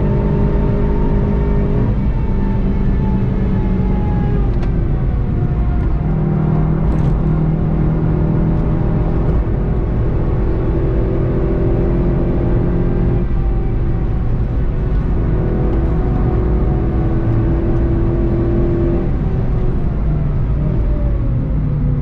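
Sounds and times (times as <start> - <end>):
car engine running: 0.0 - 21.0
road and wind rumble: 0.0 - 22.0.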